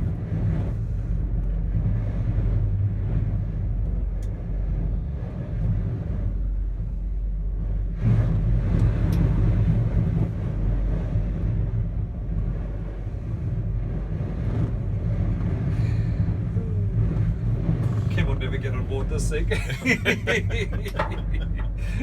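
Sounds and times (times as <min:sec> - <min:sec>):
gondola cabin low rumble: 0:00.0 - 0:22.0.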